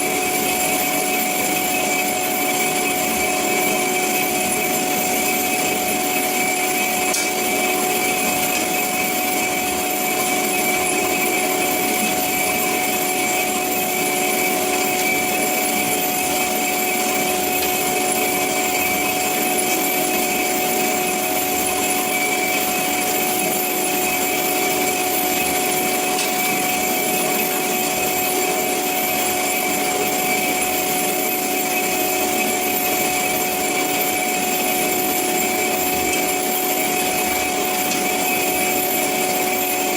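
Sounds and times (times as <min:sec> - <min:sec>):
band saw cutting metal: 0:00.0 - 0:39.9.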